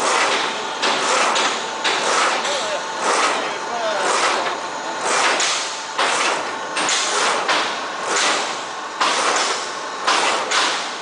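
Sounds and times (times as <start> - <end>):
machine rhythmic hissing clatter: 0.0 - 11.0.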